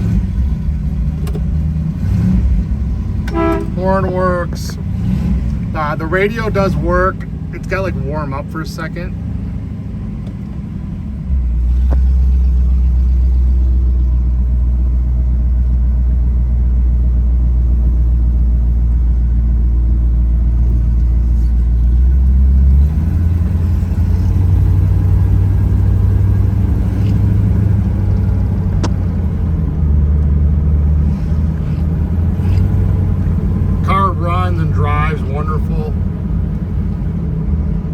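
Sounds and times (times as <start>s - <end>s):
car engine rumbling: 0.0s - 37.9s.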